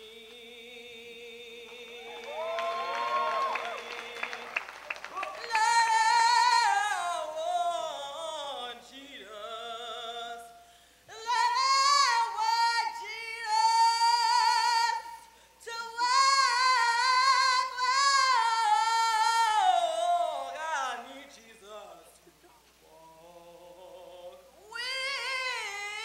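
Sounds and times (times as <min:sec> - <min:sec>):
woman singing operatically: 0:00.0 - 0:22.3, 0:22.9 - 0:26.0.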